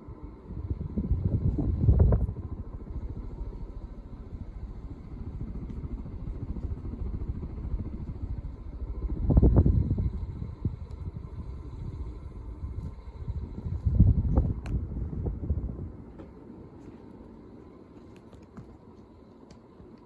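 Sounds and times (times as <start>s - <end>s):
faint motor hum: 0.0s - 20.0s
fan wind rumble on microphone: 0.0s - 20.0s.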